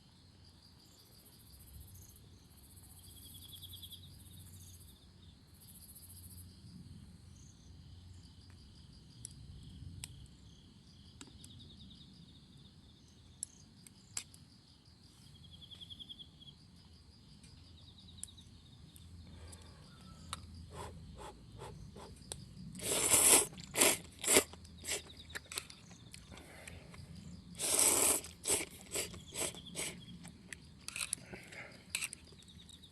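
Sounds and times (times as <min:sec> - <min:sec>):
insects chirping: 0:00.0 - 0:32.9.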